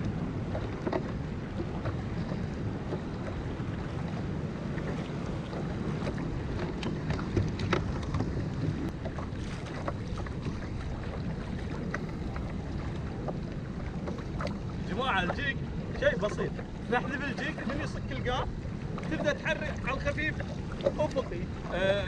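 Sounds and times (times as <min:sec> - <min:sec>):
sea water sloshing: 0:00.0 - 0:22.0
sharp ticks and splashes: 0:00.0 - 0:22.0
wind buffeting microphone: 0:00.0 - 0:22.0.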